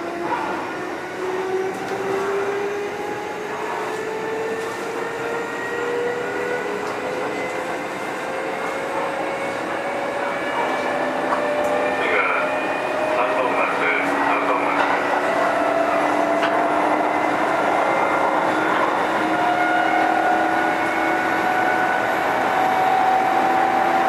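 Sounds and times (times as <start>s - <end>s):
train running hiss and rumble: 0.0s - 24.0s.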